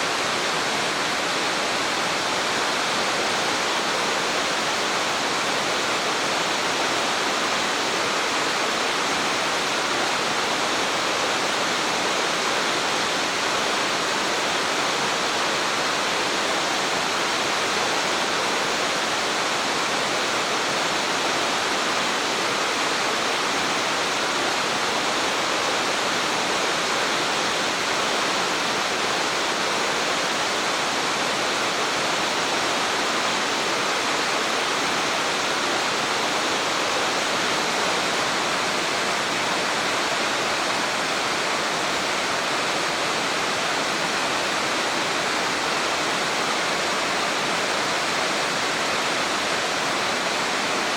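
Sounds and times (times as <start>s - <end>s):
rushing water: 0.0s - 50.9s.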